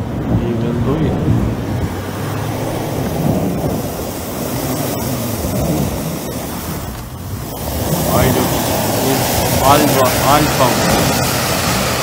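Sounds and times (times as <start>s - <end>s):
truck engine humming: 0.0s - 12.0s
tyres churning snow: 0.0s - 12.0s.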